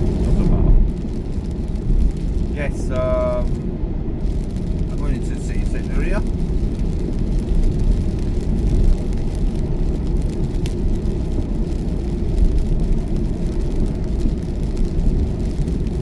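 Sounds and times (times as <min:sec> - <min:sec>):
road and tyre rumble inside car: 0:00.0 - 0:16.0.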